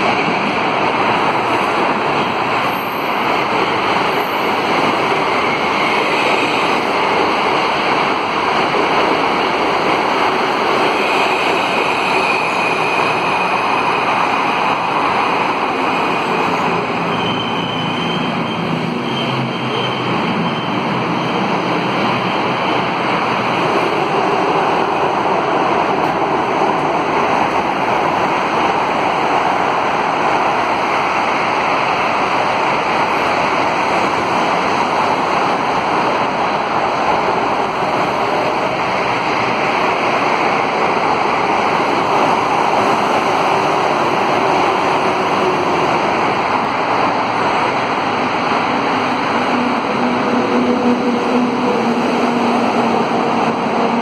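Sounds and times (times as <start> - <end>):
metro train rushing on rails: 0.0 - 54.0.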